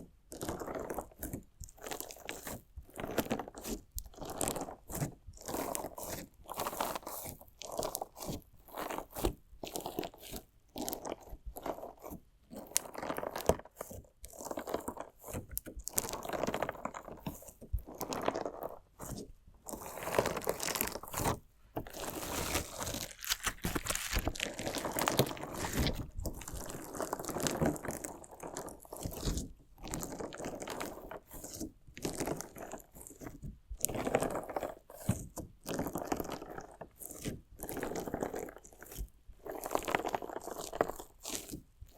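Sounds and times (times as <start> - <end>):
crunchy slime with stones crunching: 0.0 - 41.9.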